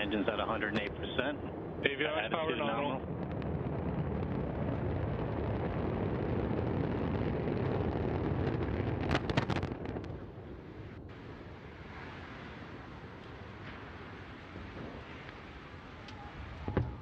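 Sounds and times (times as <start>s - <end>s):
rocket engine rumble: 0.0s - 17.0s
rocket exploding with crackling blast: 0.0s - 17.0s.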